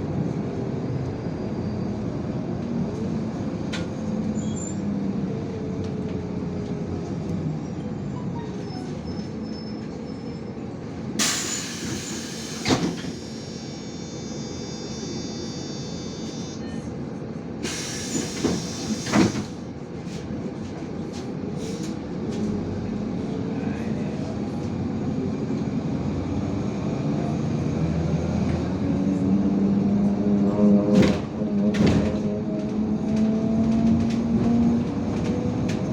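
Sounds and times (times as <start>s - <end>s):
bus engine running: 0.0s - 35.9s.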